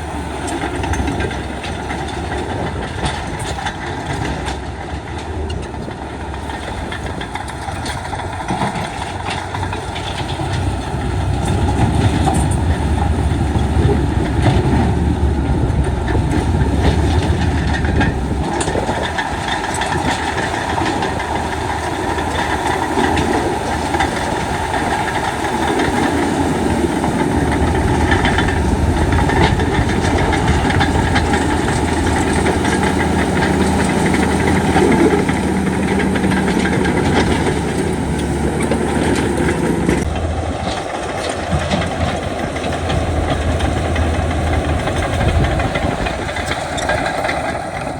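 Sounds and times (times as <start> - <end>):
diesel machinery engine drone: 0.0 - 47.9.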